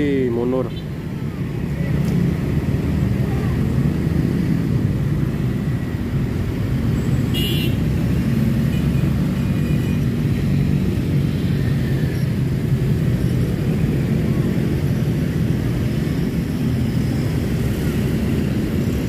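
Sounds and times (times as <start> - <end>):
low rumble of traffic: 0.0 - 19.0
motorcycle and car engines passing: 1.1 - 19.0.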